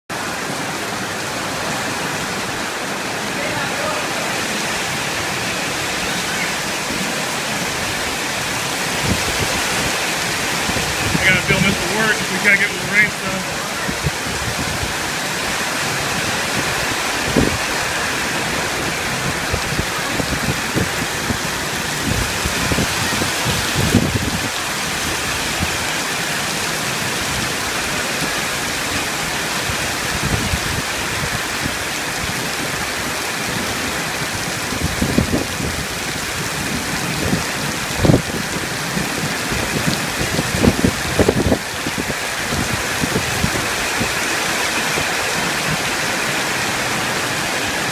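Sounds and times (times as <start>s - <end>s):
heavy rain on pavement: 0.1s - 47.9s.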